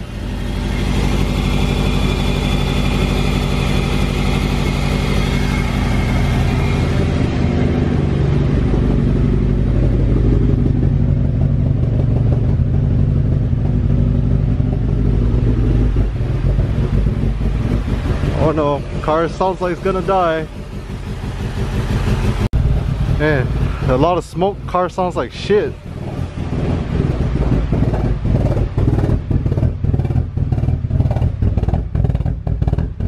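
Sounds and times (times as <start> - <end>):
car engine rough idle: 0.0 - 33.0.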